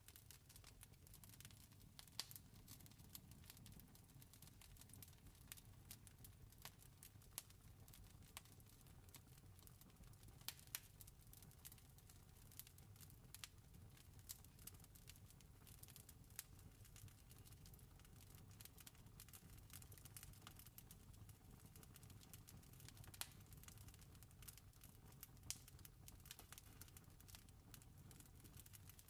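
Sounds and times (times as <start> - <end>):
faint campfire crackling: 0.0 - 29.0.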